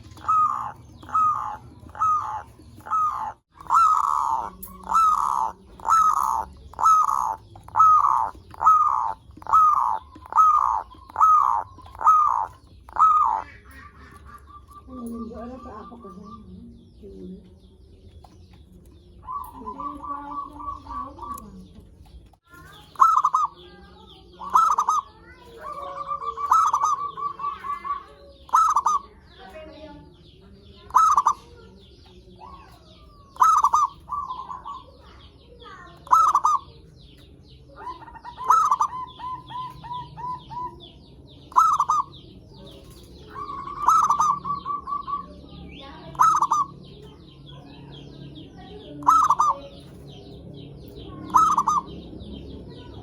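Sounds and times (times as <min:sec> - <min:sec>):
dove cooing: 0:00.0 - 0:17.6, 0:18.6 - 0:22.0, 0:22.6 - 0:53.0
small birds chirping: 0:00.0 - 0:53.0.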